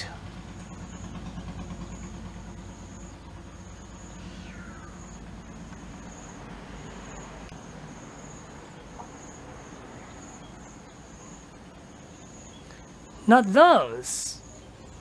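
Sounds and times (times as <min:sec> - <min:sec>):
faint outdoor background noise: 0:00.0 - 0:15.0
insects trilling: 0:00.0 - 0:15.0.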